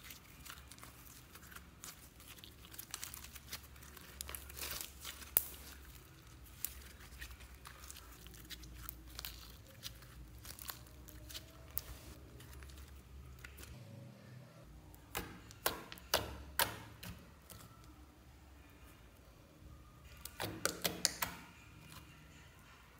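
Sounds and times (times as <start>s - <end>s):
slime squelching crackles: 0.0s - 13.8s, 14.9s - 18.2s, 20.0s - 22.2s.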